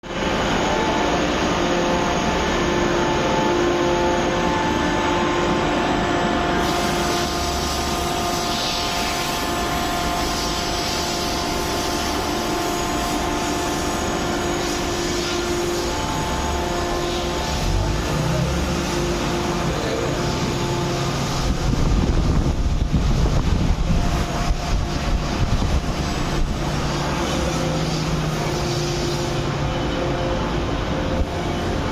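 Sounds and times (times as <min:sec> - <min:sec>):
hydraulic press humming: 0:00.1 - 0:31.9.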